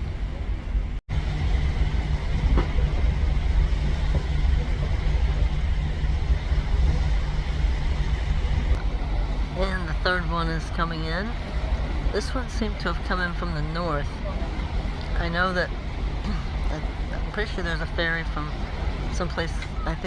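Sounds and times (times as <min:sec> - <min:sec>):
wind buffeting microphone: 0:00.0 - 0:19.7.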